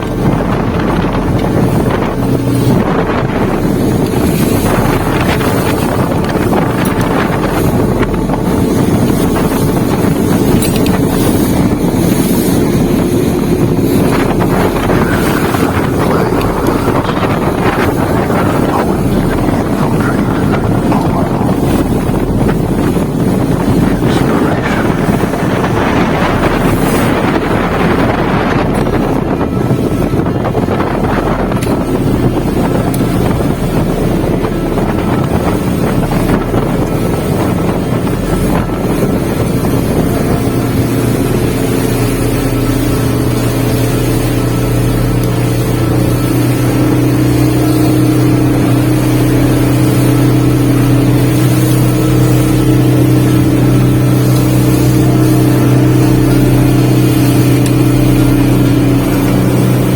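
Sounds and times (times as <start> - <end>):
motorboat engine running: 0.0 - 59.9
wind buffeting microphone: 0.0 - 59.9.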